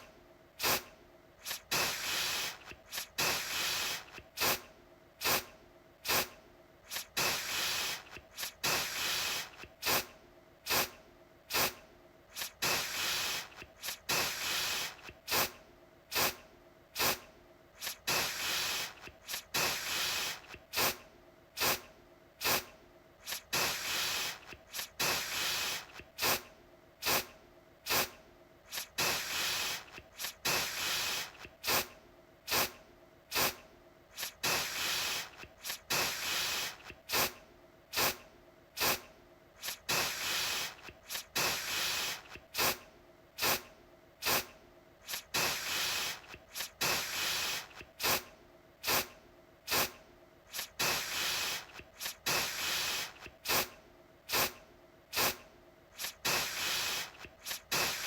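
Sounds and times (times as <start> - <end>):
aerosol spray bursts: 0.6 - 10.1, 10.7 - 16.4, 17.0 - 21.0, 21.6 - 27.3, 27.9 - 38.2, 38.8 - 42.8, 43.4 - 49.1, 49.7 - 55.4, 56.0 - 58.0.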